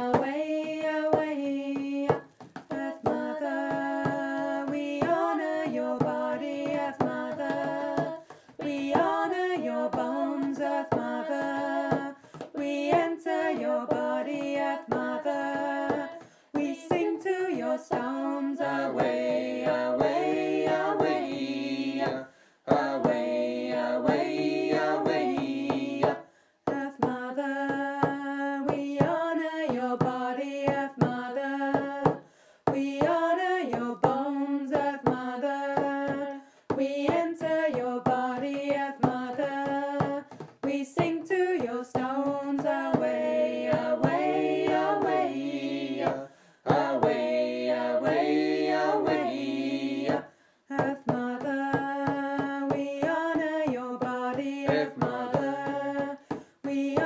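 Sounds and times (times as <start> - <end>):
voices singing a chant: 0.0 - 57.0.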